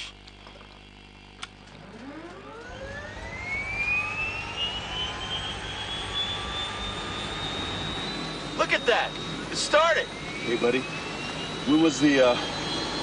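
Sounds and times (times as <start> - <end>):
turbine engine whine: 0.0 - 13.0.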